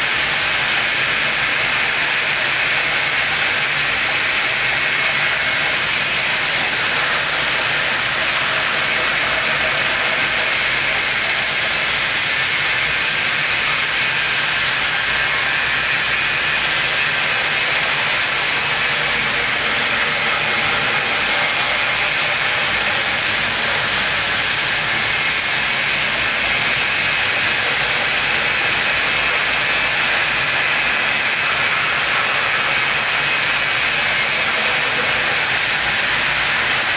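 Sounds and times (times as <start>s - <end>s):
loud steady hiss: 0.0s - 36.9s.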